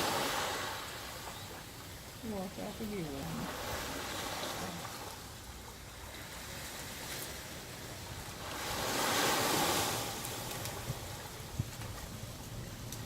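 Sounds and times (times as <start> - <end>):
waves washing on a beach: 0.0 - 13.0.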